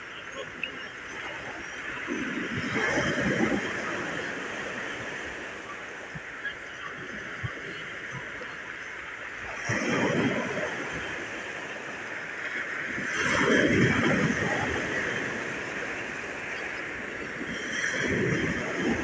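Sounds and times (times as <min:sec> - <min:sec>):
waves washing up pebble beach: 0:00.0 - 0:08.6, 0:09.2 - 0:19.0.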